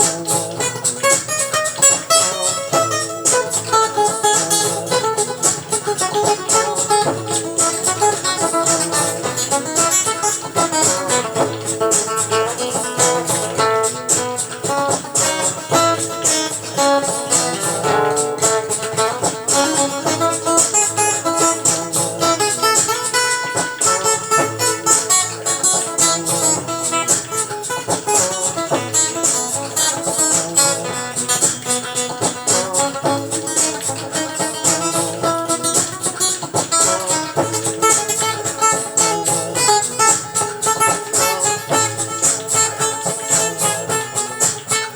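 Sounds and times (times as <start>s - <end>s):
guitar instrumental music: 0.0s - 44.9s.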